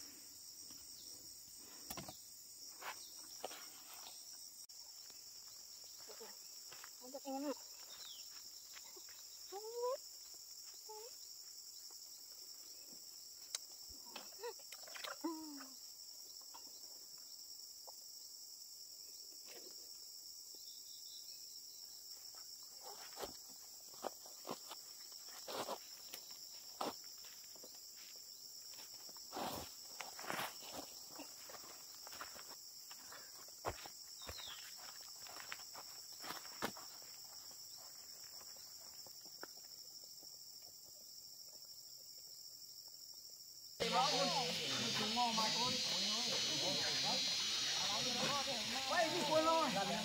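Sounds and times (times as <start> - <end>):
insects chirping chorus: 0.0 - 50.0.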